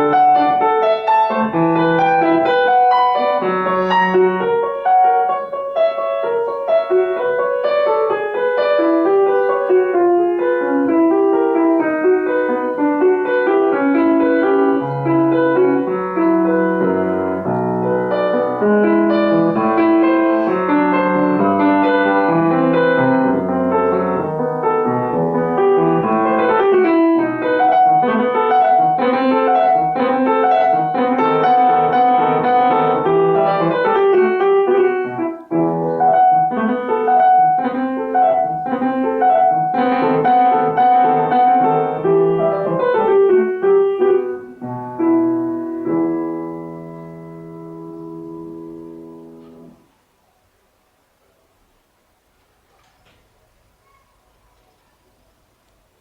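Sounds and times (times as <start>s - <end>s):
solo classical piano: 0.0s - 56.0s.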